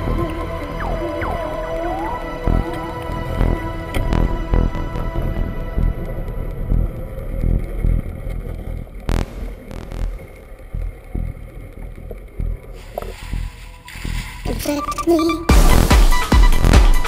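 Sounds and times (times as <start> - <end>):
muffled boat motors underwater: 0.0 - 14.1.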